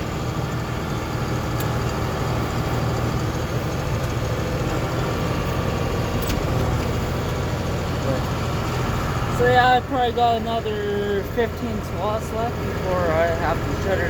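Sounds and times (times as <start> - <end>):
tractor engine hum: 0.0 - 14.0.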